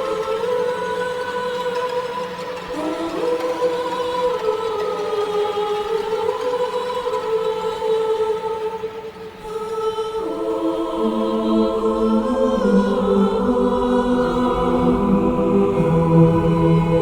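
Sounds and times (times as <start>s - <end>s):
choir chords film music: 0.0s - 17.0s.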